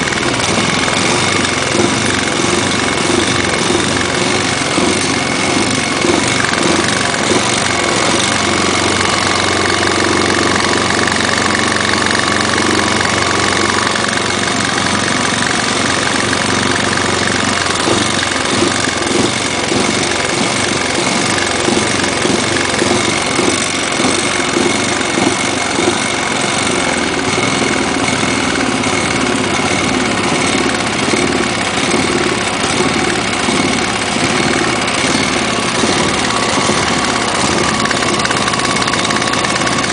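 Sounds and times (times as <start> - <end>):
small engine running at low speed: 0.0 - 39.9.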